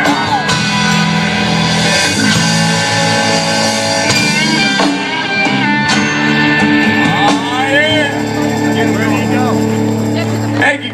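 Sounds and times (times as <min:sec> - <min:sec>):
drums: 0:00.0 - 0:10.9
guitar: 0:00.0 - 0:10.9.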